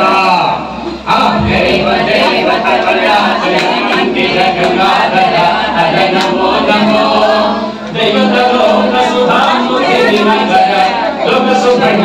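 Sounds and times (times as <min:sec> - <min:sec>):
voices chanting together: 0:00.0 - 0:12.0.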